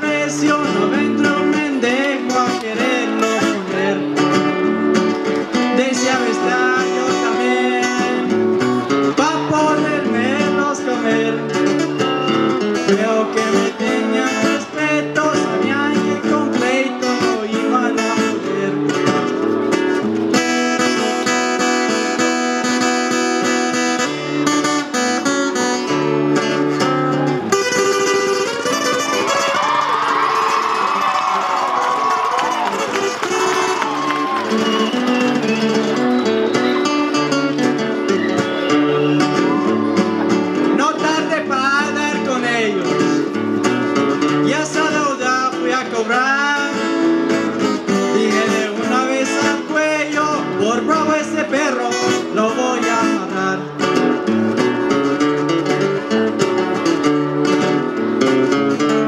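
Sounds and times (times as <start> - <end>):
strummed acoustic guitar chords: 0.0 - 30.9, 32.6 - 59.0
picked acoustic guitar melody: 0.0 - 59.0.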